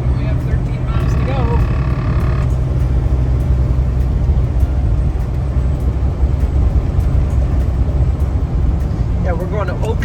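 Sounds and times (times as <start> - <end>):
diesel engine drone in truck cab: 0.0 - 10.0
road noise: 0.0 - 10.0.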